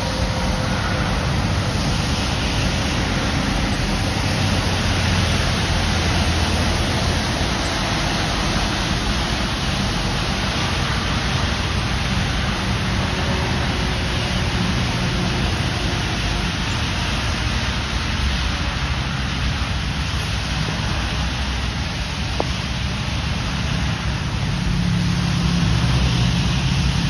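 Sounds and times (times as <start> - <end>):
diesel engine rumble: 0.0 - 27.0
tyres hissing on wet road: 0.0 - 27.0.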